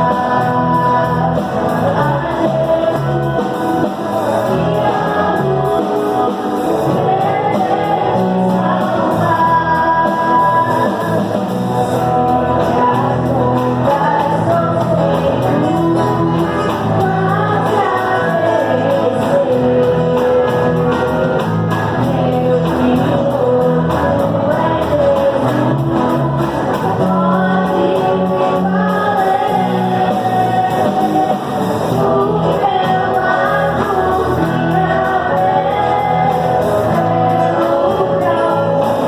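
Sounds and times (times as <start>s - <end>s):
worship singing with band: 0.0s - 39.0s.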